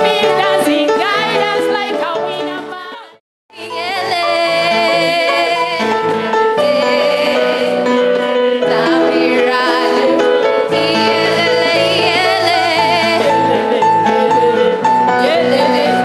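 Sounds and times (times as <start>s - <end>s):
music with singing voice: 0.0s - 16.0s.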